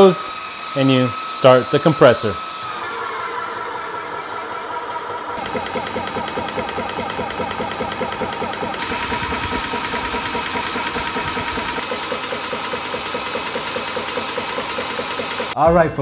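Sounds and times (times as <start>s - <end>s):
air compressor pumping: 0.0s - 15.6s
cooling fans humming: 0.0s - 15.6s.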